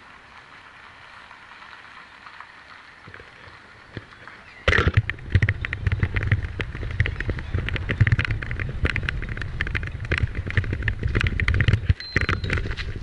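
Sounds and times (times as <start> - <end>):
wind buffeting microphone: 1.5 - 13.0.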